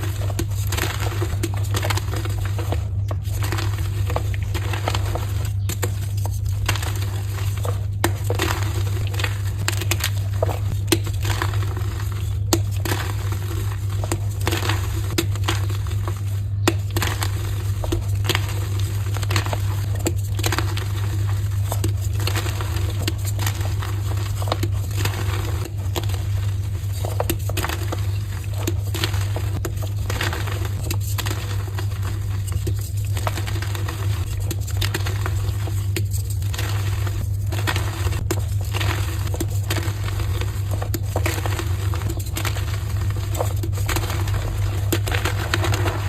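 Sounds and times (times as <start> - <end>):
chalk crunching: 0.0 - 46.0
steady low hum: 0.0 - 46.0.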